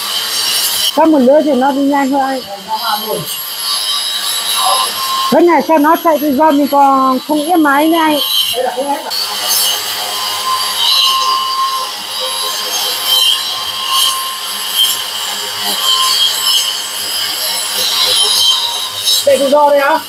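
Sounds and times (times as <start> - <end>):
wall chaser cutting masonry: 0.0 - 20.0.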